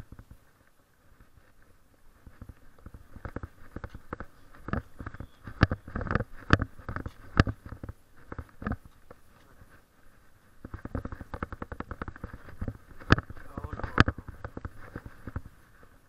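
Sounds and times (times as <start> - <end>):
camera and leash rustling: 0.0 - 16.0
footsteps on concrete: 0.2 - 16.0.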